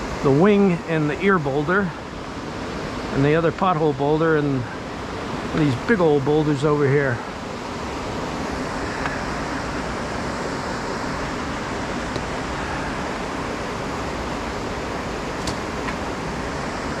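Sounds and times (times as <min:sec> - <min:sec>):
river rapids roaring: 0:00.0 - 0:17.0.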